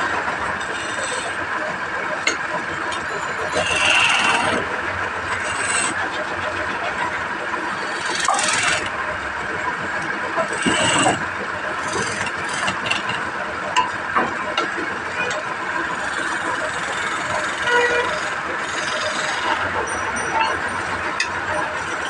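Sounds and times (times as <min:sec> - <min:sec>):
tool cutting spinning wood: 0:00.0 - 0:15.3, 0:15.9 - 0:22.0
wood lathe running: 0:00.0 - 0:22.0.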